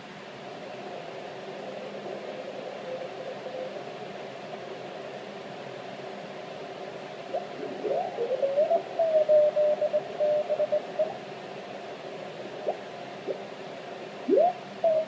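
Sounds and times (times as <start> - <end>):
radio band noise hiss: 0.0 - 15.0.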